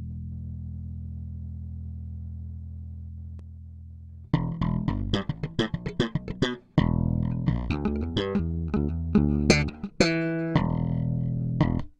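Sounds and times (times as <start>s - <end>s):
electric bass plucked notes: 0.0s - 11.9s.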